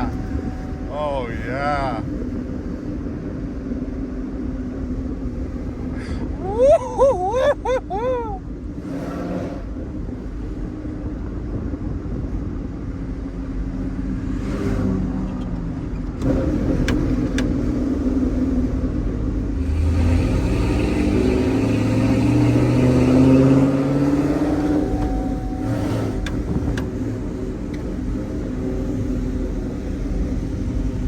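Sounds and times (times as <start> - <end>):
truck engine accelerating: 0.0 - 31.0.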